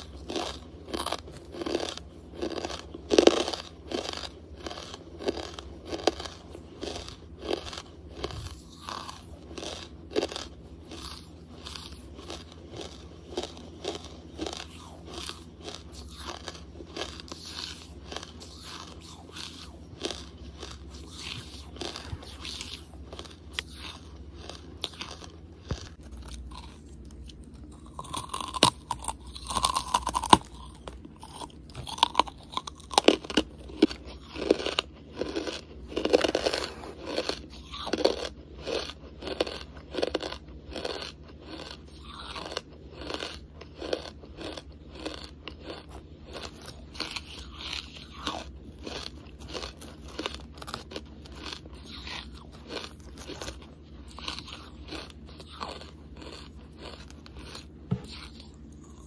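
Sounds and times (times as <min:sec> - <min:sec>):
chewing: 0:00.0 - 0:59.0
crunching charcoal: 0:00.0 - 0:59.0.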